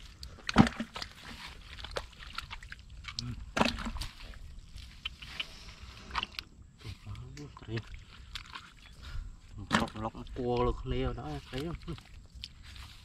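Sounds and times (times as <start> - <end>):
mud and water squelching: 0.0 - 13.0.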